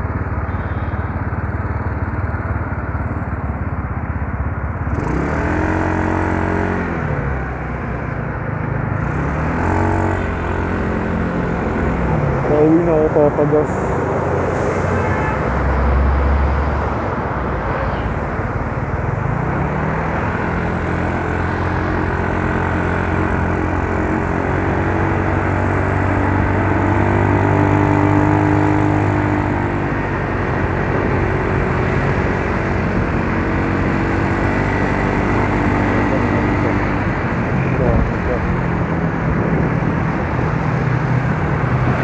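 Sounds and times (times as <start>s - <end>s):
scooter engine running: 0.0s - 13.9s, 18.5s - 42.0s
road noise: 0.0s - 42.0s.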